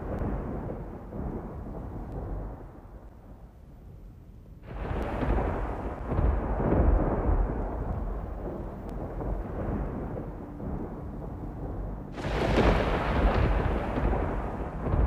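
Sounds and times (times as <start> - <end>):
thunder rumbling: 0.0 - 3.6, 4.6 - 15.0.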